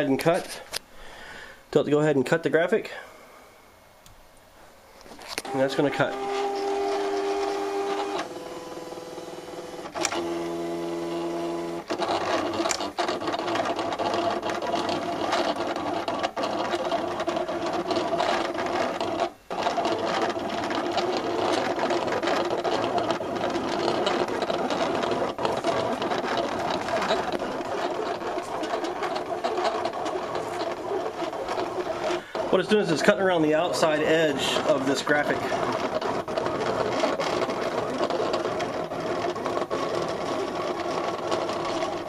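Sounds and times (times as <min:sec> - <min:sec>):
cutter machine steady tone: 0:05.3 - 0:42.0
cutter machine whirring: 0:05.3 - 0:42.0.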